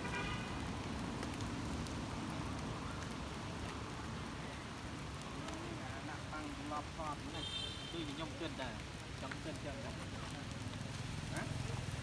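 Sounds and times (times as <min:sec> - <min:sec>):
rain falling on wet ground: 0:00.0 - 0:12.0.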